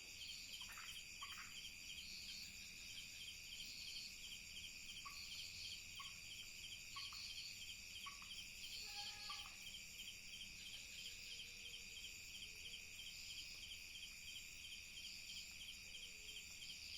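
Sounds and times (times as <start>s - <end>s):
crickets trilling: 0.0s - 16.9s.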